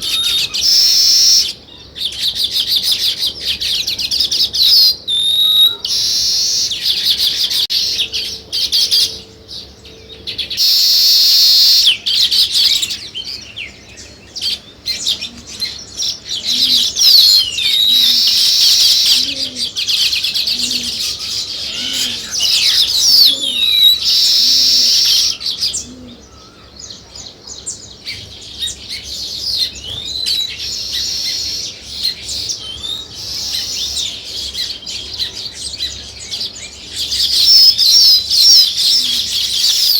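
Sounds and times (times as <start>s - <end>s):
harsh bird chattering: 0.0s - 13.5s, 14.4s - 26.7s, 28.0s - 39.9s
sparrows chirping: 0.0s - 39.9s.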